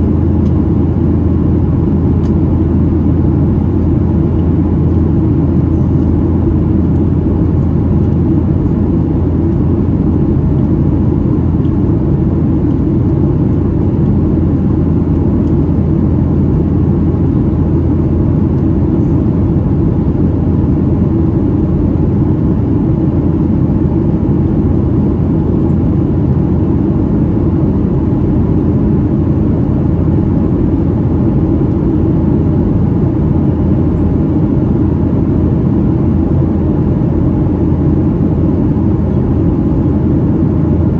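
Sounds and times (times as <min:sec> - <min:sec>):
jet engine cabin roar: 0:00.0 - 0:40.9.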